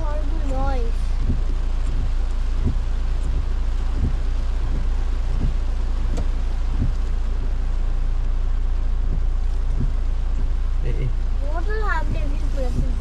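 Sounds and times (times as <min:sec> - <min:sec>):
soft low thud: 0:00.0 - 0:11.1
rain hiss: 0:00.0 - 0:13.0
road and engine rumble: 0:00.0 - 0:13.0.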